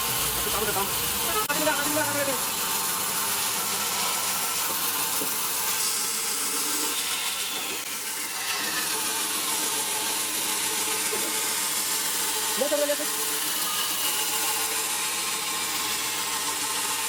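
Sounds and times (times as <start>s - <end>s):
band saw cutting timber: 0.0s - 17.0s.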